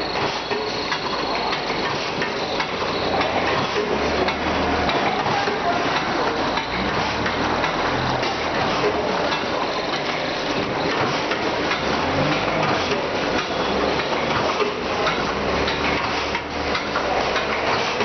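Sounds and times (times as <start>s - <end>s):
rapid irregular clicks and knocks: 0.0s - 18.0s.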